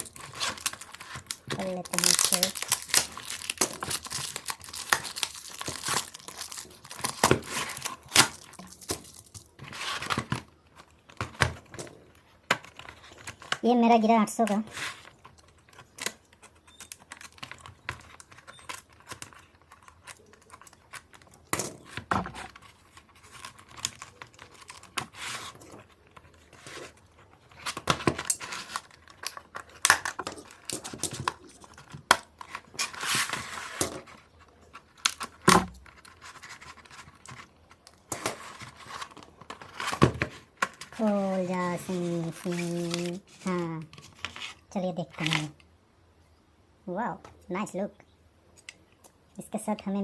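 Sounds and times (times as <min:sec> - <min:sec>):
packaging tearing and crinkling: 0:00.0 - 0:13.6, 0:14.7 - 0:44.6.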